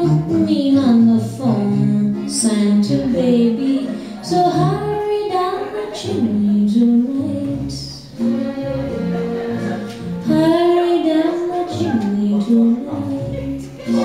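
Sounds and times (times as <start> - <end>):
bass line: 0.0 - 5.3, 6.1 - 14.0.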